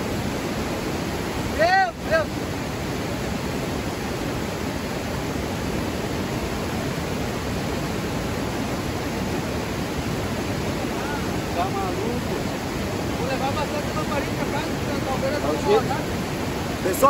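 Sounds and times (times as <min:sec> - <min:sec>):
river rapids rushing: 0:00.0 - 0:17.0.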